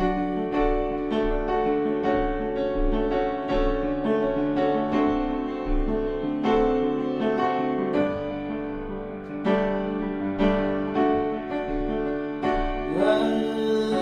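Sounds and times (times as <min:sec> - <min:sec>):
upright piano playing: 0:00.0 - 0:14.0.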